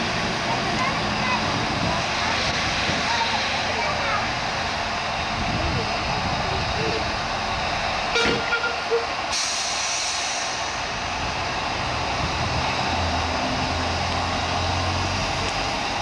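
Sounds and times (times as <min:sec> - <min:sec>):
steam locomotive hissing steam: 0:00.0 - 0:16.0.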